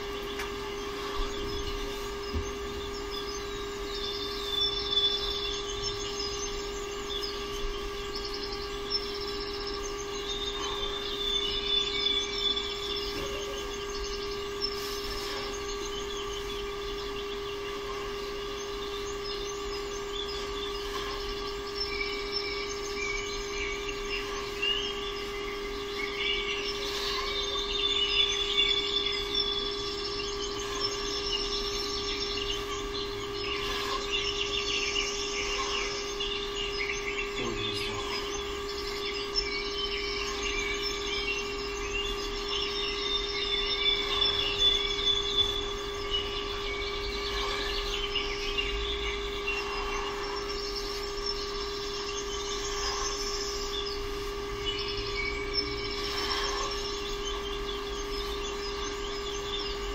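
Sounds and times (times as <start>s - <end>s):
birds chirping: 0.0s - 59.9s
electrical hum: 0.0s - 59.9s.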